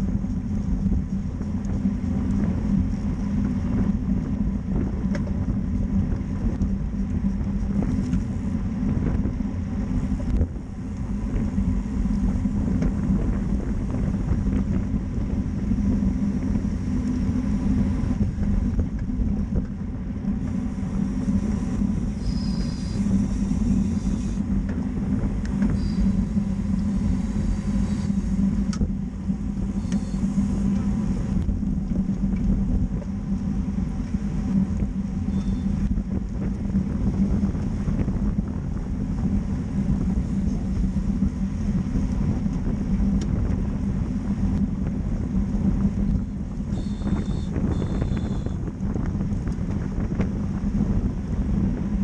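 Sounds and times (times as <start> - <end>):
road noise: 0.0 - 52.0
wind noise on microphone: 0.0 - 52.0.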